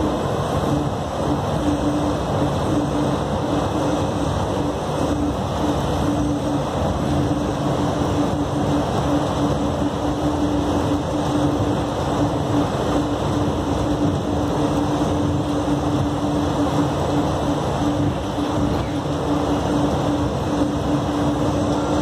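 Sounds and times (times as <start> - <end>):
steady low hum: 0.0 - 22.0
train car running rumble: 0.0 - 22.0.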